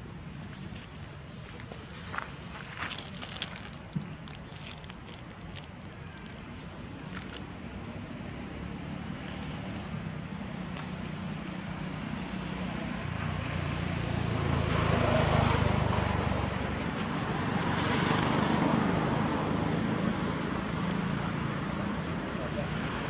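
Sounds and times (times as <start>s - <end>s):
passing traffic engine rumble: 0.0s - 23.0s.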